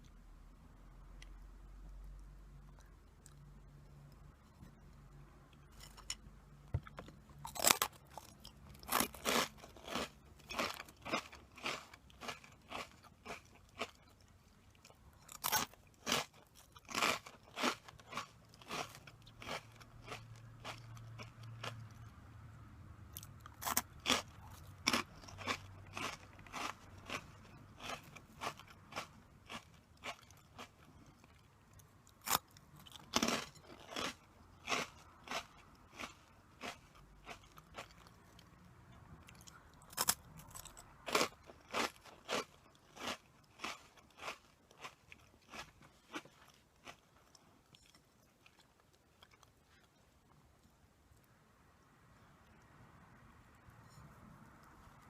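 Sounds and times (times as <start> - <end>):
chewing crunchy snacks: 2.0 - 22.1, 23.1 - 50.8.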